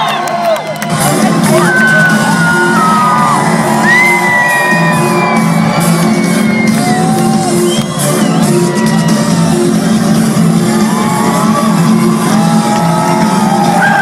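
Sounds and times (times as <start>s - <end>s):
crowd shouting and whooping: 0.0s - 14.0s.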